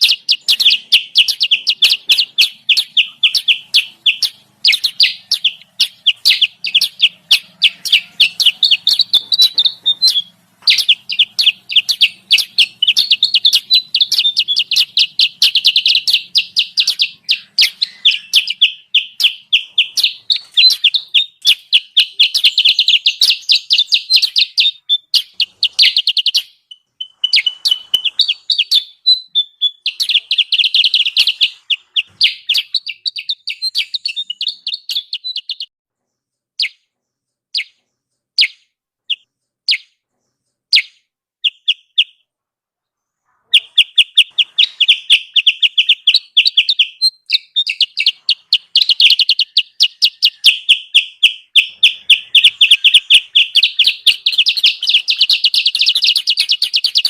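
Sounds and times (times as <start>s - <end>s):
bird chattering trills: 0.0s - 35.7s, 43.2s - 57.0s.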